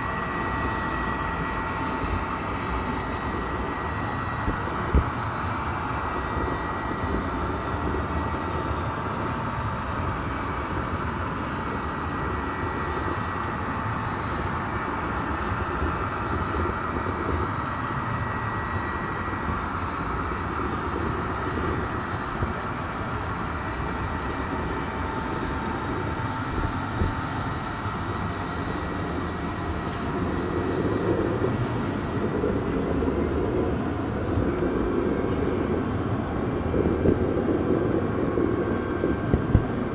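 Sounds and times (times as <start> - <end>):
faint high whine: 0.0 - 39.9.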